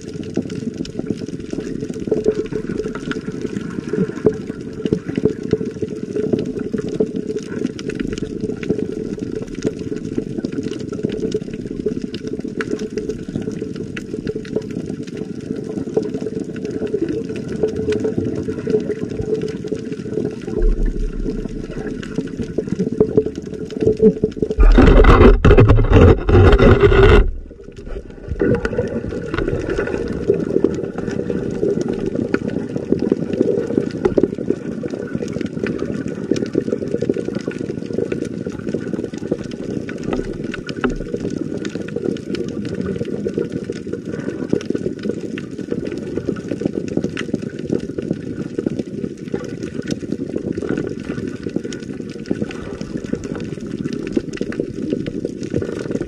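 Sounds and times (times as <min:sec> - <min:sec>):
faint underwater crackles: 0:00.0 - 0:56.0
underwater water rush: 0:00.0 - 0:56.0.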